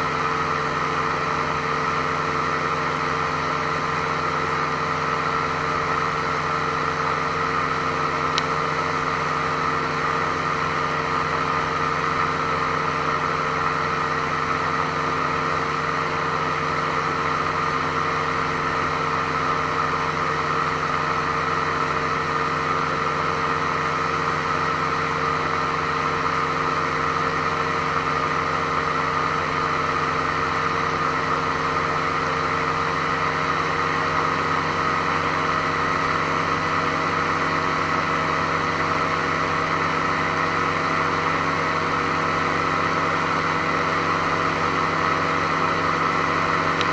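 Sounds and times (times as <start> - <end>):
small aircraft engine droning: 0.0 - 46.9.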